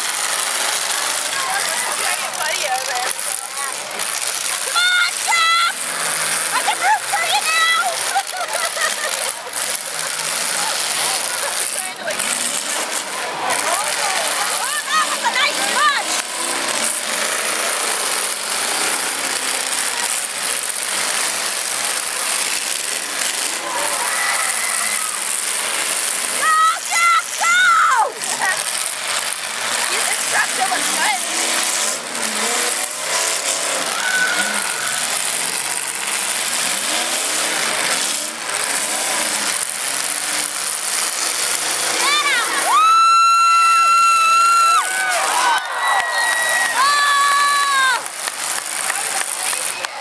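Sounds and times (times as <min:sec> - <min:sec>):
rattling clanking mechanical noise: 0:00.0 - 0:42.7
truck engines running: 0:00.0 - 0:50.0.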